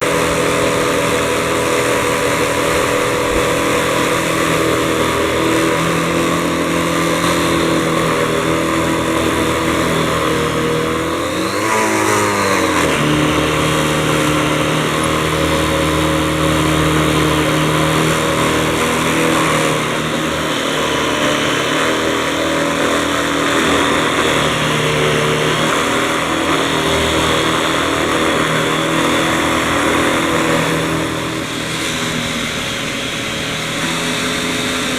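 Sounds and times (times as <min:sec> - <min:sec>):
vacuum cleaner motor running: 0:00.0 - 0:34.9.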